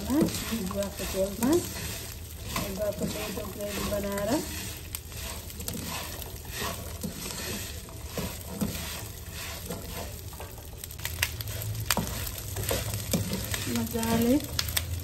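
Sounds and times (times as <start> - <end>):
chillies sizzling in oil: 0.0 - 15.0.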